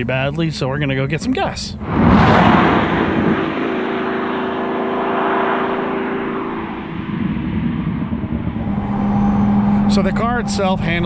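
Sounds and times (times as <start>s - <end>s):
sports car driving away: 1.7s - 11.0s.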